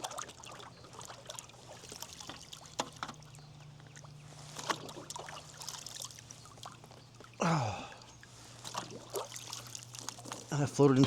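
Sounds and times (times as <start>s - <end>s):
water lapping against kayak hull: 0.0s - 10.6s.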